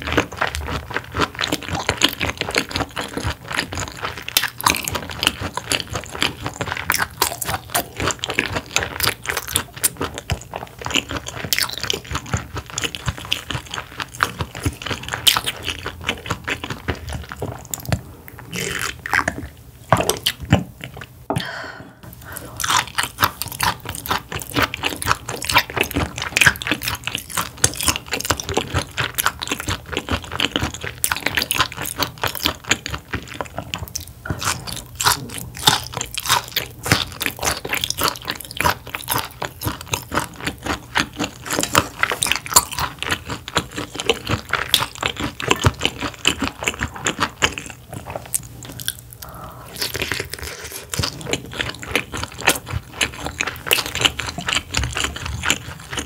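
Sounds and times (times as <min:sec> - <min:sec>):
person chewing fish: 0:00.0 - 0:56.0.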